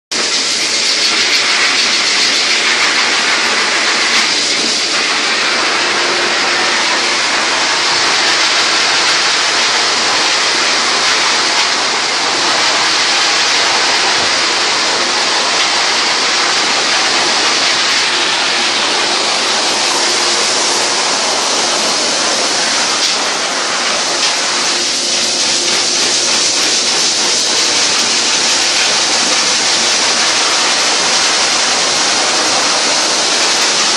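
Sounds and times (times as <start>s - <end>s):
pet dryer blowing air: 0.1s - 33.9s.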